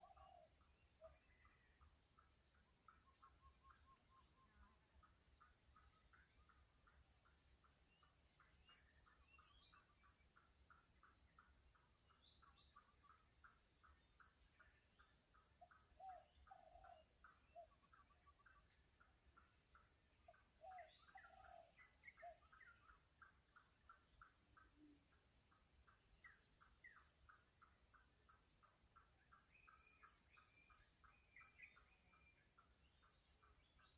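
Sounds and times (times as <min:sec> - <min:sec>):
insect drone and chirping: 0:00.0 - 0:33.9.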